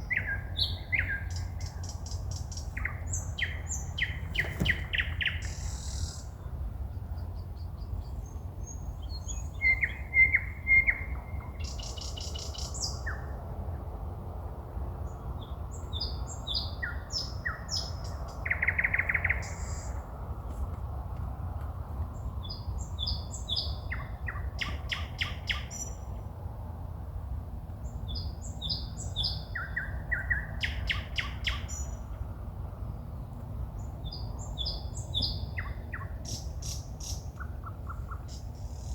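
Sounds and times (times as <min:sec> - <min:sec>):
songbirds singing: 0:00.0 - 0:13.6, 0:14.9 - 0:20.2, 0:21.6 - 0:26.3, 0:27.7 - 0:38.9.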